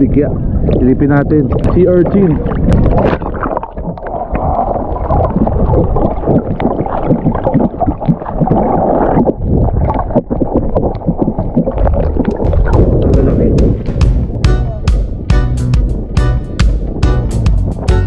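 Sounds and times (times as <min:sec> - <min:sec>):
muffled underwater sloshing: 0:00.0 - 0:15.3.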